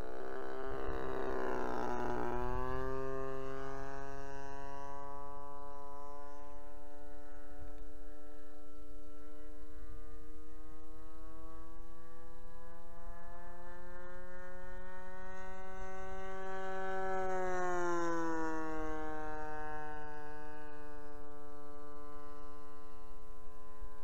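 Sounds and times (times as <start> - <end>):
model airplane engine running: 0.0 - 24.0.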